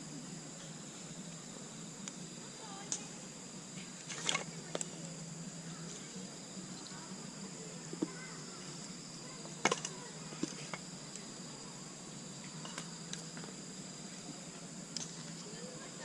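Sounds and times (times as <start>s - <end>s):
high-pitched insect song: 0.0s - 16.0s.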